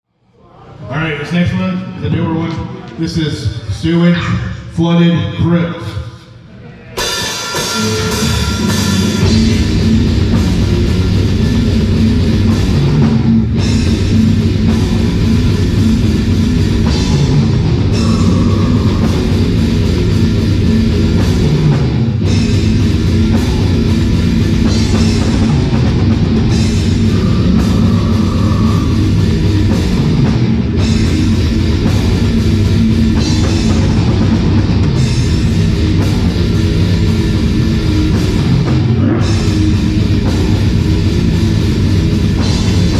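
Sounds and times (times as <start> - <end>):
death metal band playing live: 7.0 - 42.9.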